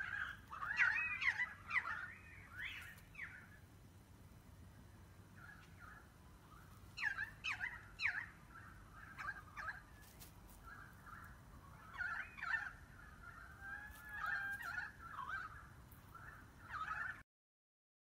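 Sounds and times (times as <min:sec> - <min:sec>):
sparrows chirping: 0:00.0 - 0:03.6, 0:05.3 - 0:17.0
faint low hum: 0:00.0 - 0:17.2.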